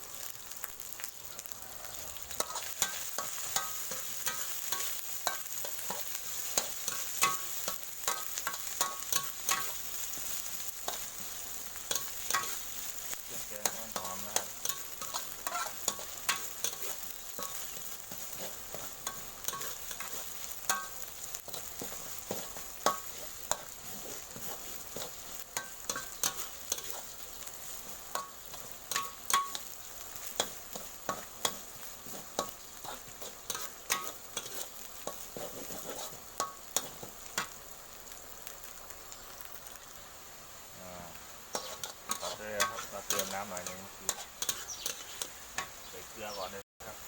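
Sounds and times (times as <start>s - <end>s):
paste sizzling in a wok: 0.0s - 47.0s.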